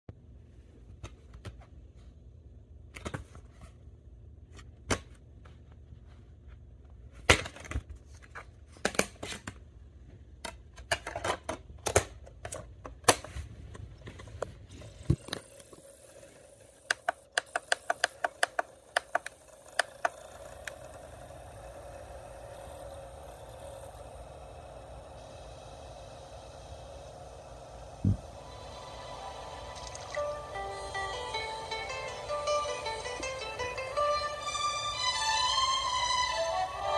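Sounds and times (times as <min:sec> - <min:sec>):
steady hum of player: 0:00.1 - 0:36.9.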